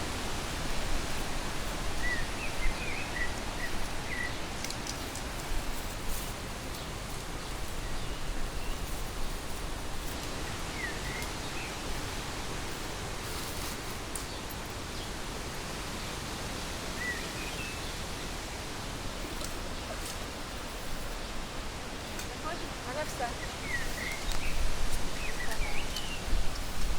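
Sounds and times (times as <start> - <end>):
steady outdoor hiss: 0.0 - 26.9.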